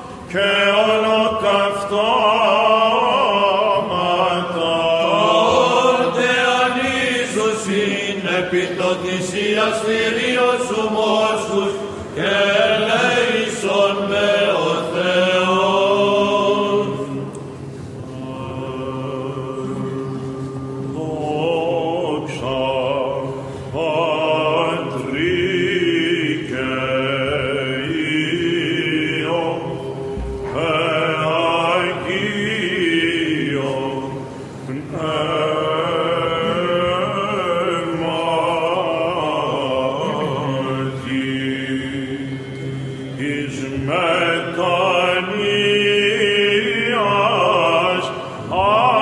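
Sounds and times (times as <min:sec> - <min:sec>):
cantors chanting: 0:00.0 - 0:49.0
steady vocal drone: 0:00.0 - 0:49.0.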